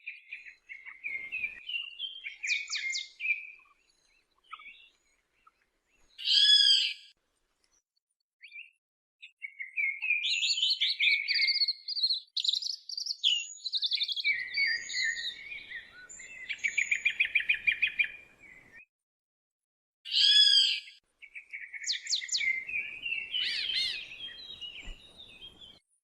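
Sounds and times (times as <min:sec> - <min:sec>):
songbirds trilling and chirping: 0:00.0 - 0:07.8, 0:08.4 - 0:18.8, 0:20.1 - 0:25.8.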